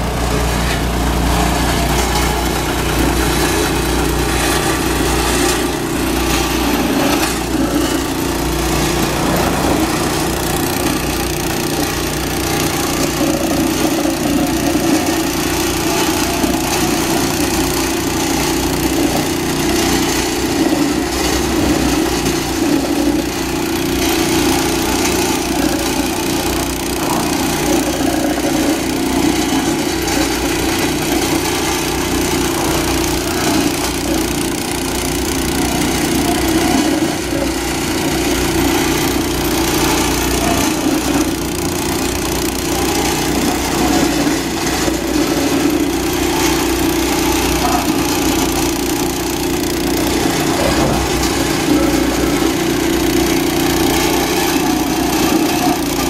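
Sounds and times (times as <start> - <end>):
small petrol engine running: 0.0 - 56.0
machine rattling: 0.1 - 56.0.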